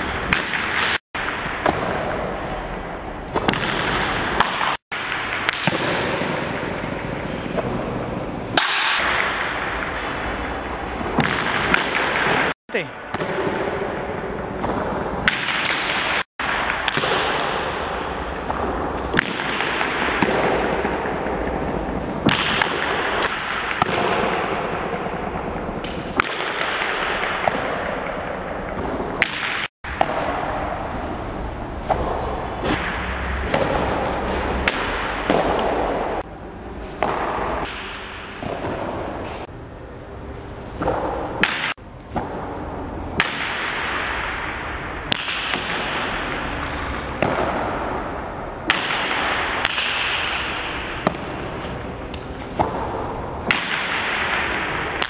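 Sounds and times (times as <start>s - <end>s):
ball cracking against wall echoing: 0.0s - 30.8s, 31.8s - 39.5s, 40.6s - 55.0s.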